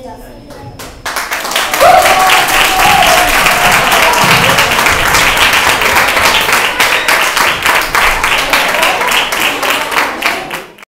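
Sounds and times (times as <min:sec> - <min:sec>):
children clapping: 0:00.8 - 0:10.9.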